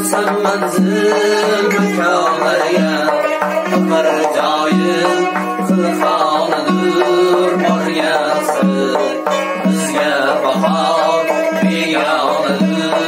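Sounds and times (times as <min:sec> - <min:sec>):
plucked lute melody: 0:00.0 - 0:13.0.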